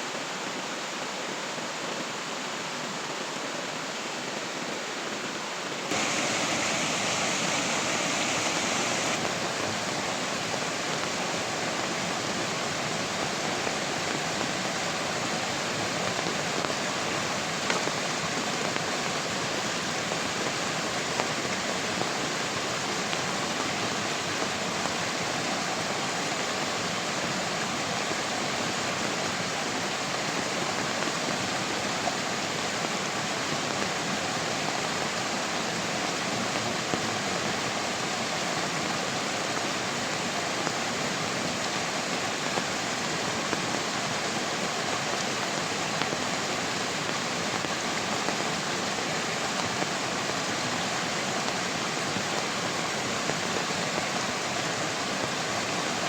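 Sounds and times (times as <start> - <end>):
water rushing: 1.5 - 56.0.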